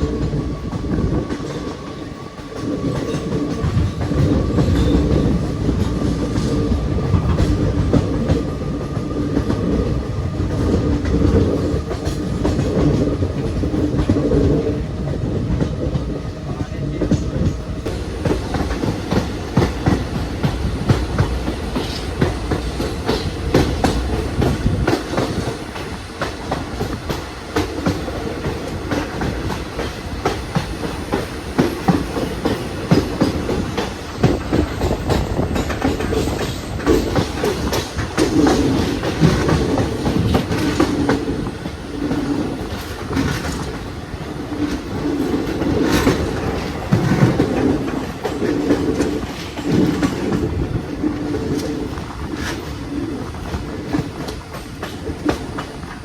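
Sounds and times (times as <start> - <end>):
train rumbling on track: 0.0 - 56.0.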